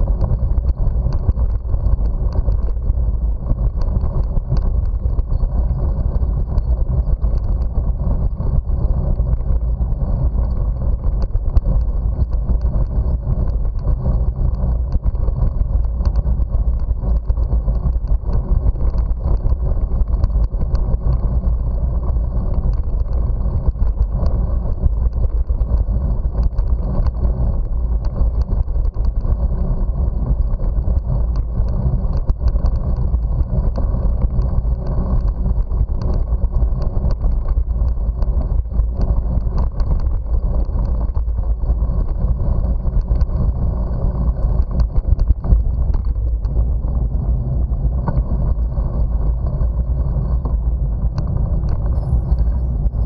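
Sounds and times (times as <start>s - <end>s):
bicycle tyres on concrete: 0.0s - 53.0s
wind buffeting microphone: 0.0s - 53.0s.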